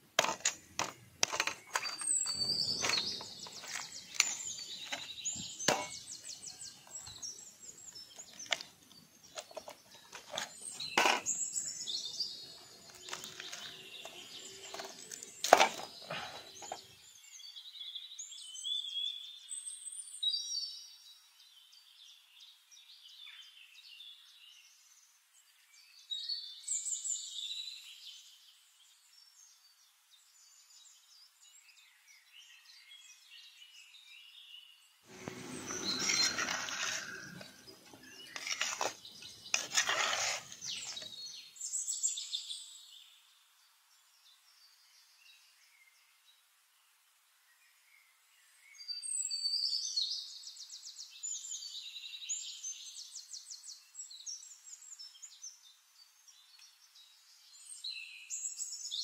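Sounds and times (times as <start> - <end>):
small birds chirping: 0.0 - 46.4, 47.5 - 59.0.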